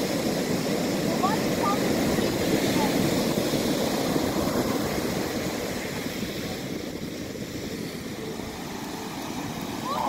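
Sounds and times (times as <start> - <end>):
ocean surf washing up beach: 0.0 - 10.0.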